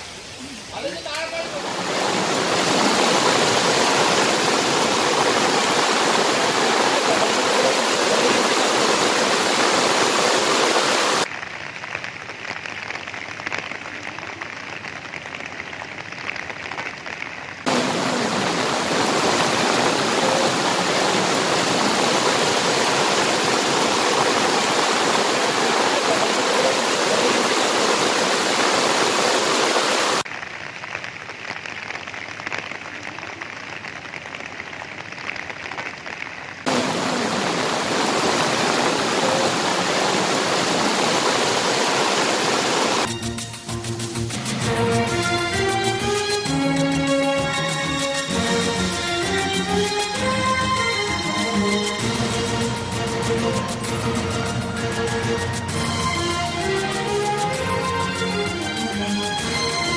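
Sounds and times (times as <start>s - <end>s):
rushing floodwater: 0.0s - 43.1s, 44.3s - 59.9s.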